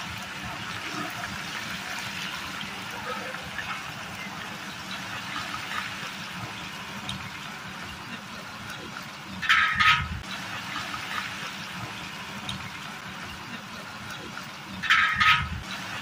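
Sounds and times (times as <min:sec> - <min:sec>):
meat deep-frying in oil: 0:00.0 - 0:16.0.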